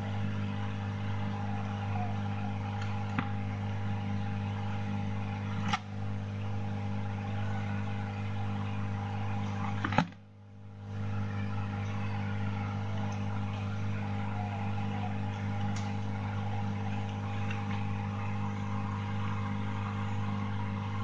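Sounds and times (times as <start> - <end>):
soldering station humming: 0.0 - 21.0.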